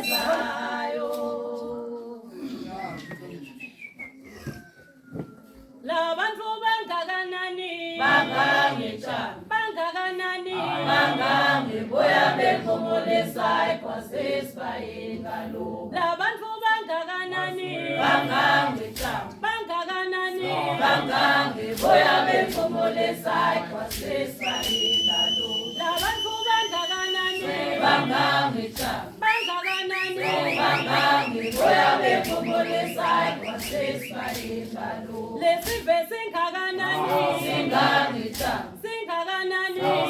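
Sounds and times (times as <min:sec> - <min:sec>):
group singing a cappella: 0:00.0 - 0:03.5, 0:05.4 - 0:40.0.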